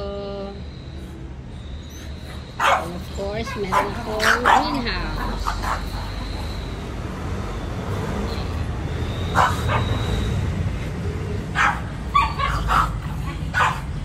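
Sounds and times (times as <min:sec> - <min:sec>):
dogs barking and yipping: 0:01.6 - 0:14.0.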